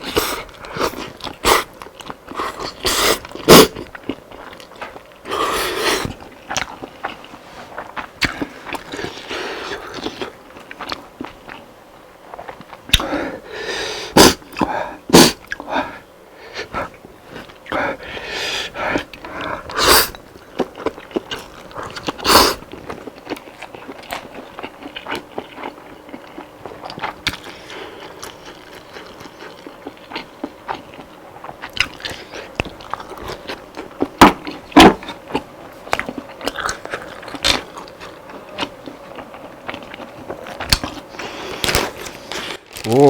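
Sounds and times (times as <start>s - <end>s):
crunchy chewing: 0.0s - 13.2s, 16.6s - 43.0s.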